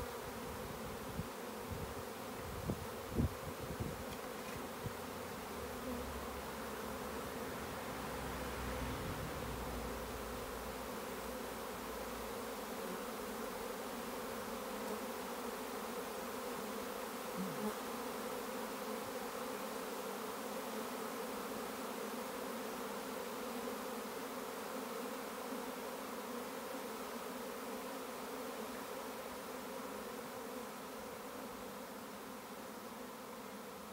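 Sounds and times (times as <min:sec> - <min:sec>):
bee swarm buzzing: 0:00.0 - 0:33.9.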